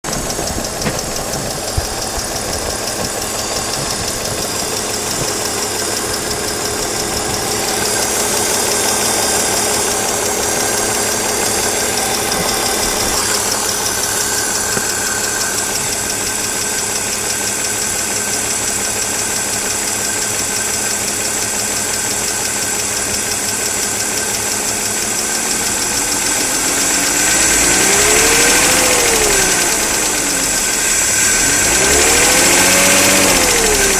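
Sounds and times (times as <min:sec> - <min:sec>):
car engine revving: 0:00.0 - 0:20.7, 0:21.8 - 0:33.9
car engine running with rattle: 0:00.0 - 0:33.9.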